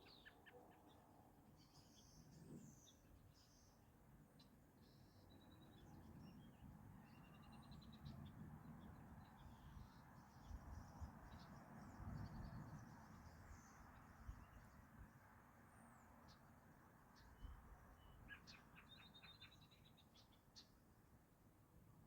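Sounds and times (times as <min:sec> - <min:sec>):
faint birdsong chirps and trills: 0:00.0 - 0:22.0.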